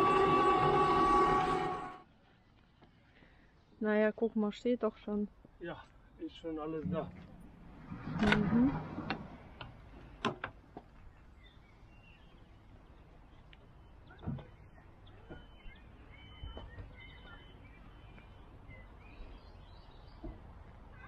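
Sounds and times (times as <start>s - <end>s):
faint birds chirping: 2.0s - 7.7s, 9.4s - 21.0s.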